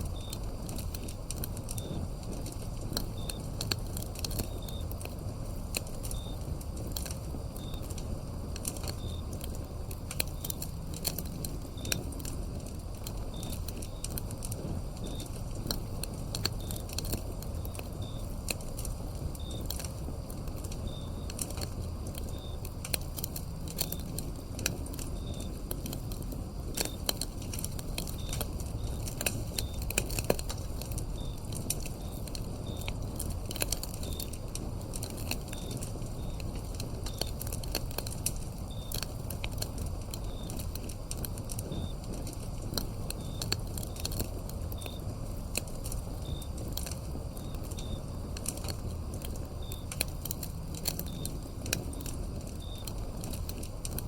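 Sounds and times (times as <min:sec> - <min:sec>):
crickets chirping: 0:00.0 - 0:54.0
wood fire crackling: 0:00.0 - 0:54.0.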